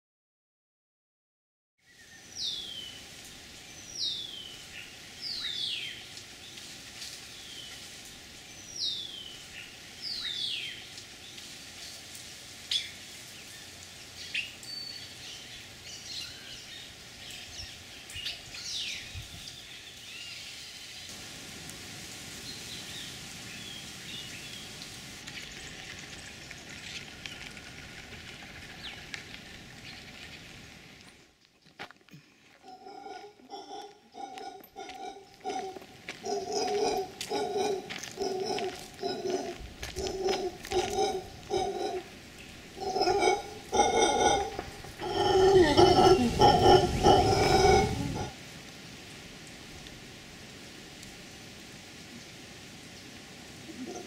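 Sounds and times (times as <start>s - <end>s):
outdoor hiss: 1.8s - 32.7s, 34.6s - 42.9s, 48.3s - 54.0s.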